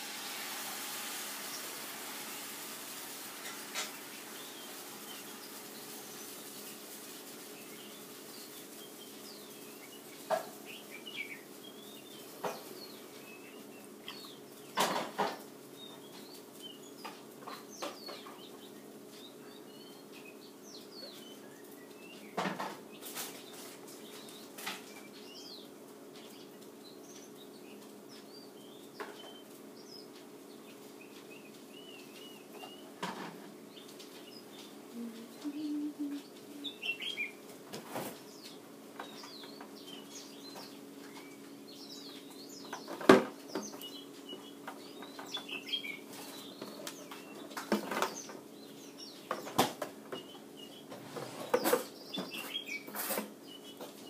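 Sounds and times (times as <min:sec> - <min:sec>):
steady low hum: 0:01.7 - 0:51.0.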